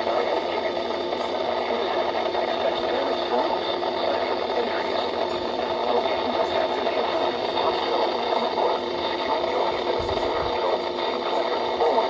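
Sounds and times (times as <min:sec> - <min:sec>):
faint broadcast voice: 0:00.0 - 0:12.0
radio static hiss: 0:00.0 - 0:12.0.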